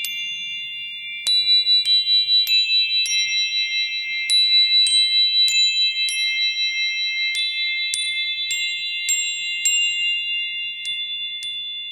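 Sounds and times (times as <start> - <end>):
bright chime-like notes: 0.0 - 11.9.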